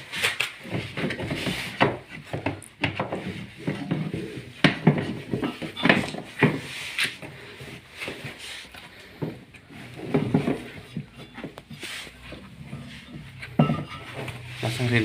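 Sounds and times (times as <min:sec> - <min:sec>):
parts knocking and rattling: 0:00.0 - 0:15.0.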